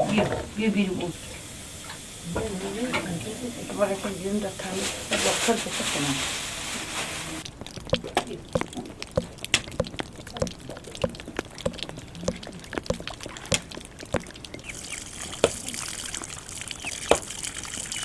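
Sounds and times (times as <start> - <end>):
water dripping: 0.0 - 6.2, 7.4 - 18.0
running water hiss: 0.0 - 18.0.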